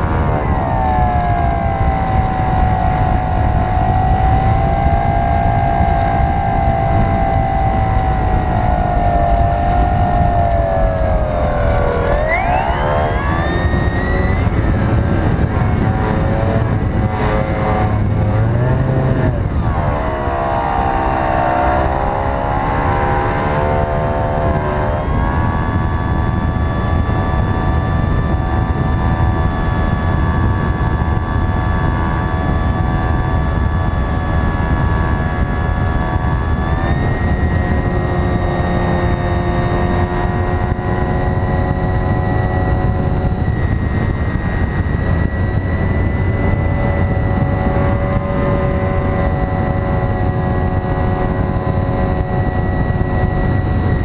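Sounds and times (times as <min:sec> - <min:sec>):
model aircraft motor drone: 0:00.0 - 0:54.0
wind rushing on microphone: 0:00.0 - 0:54.0.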